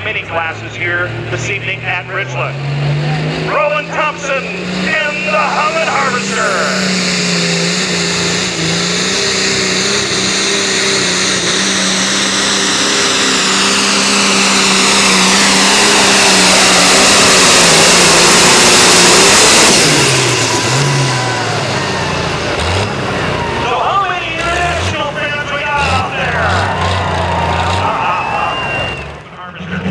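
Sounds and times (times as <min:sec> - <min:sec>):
tractor engine at full throttle: 0:00.0 - 0:29.9.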